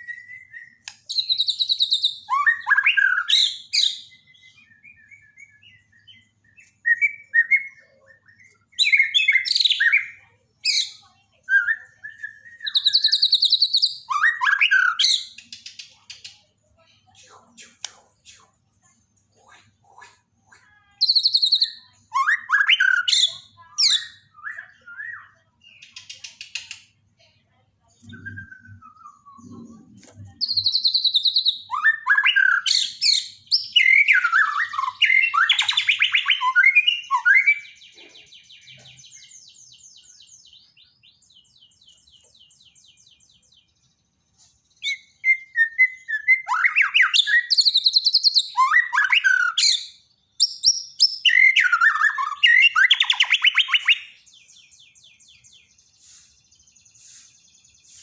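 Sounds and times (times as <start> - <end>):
bird singing loud varied song: 0.0 - 58.0.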